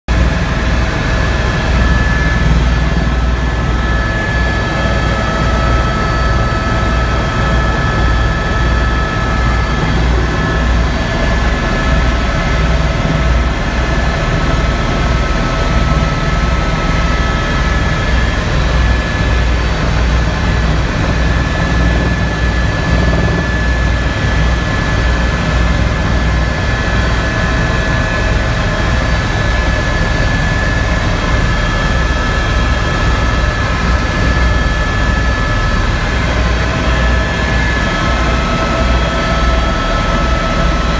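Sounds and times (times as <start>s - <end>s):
helicopter engine and rotor: 0.1s - 40.9s.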